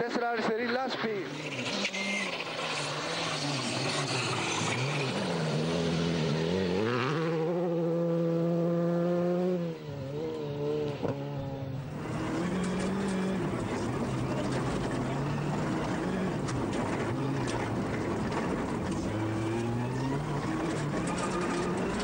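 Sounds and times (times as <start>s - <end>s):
rally car engine at full throttle: 0.1s - 22.0s.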